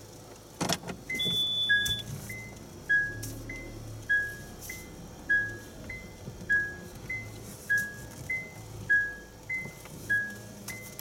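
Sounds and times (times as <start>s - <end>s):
two-note reversing warning beep: 1.1s - 11.0s.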